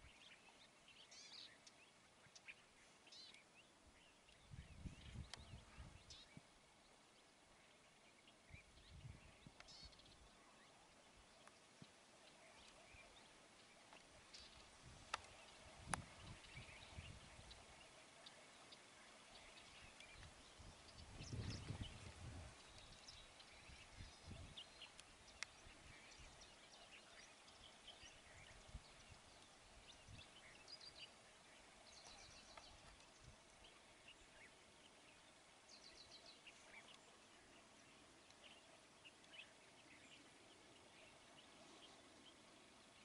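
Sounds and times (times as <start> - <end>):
birds chirping and trilling: 0.0 - 43.0
low hiss: 0.0 - 43.0.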